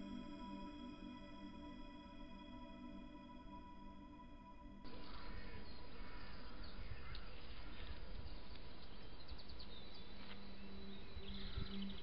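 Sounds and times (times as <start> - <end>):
steady outdoor microphone hiss: 0.0 - 12.0.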